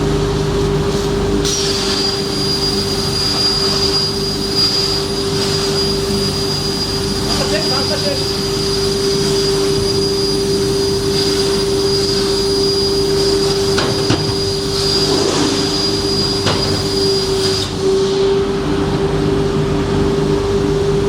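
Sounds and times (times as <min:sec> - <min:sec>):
plasma cutting machine humming: 0:00.0 - 0:21.0.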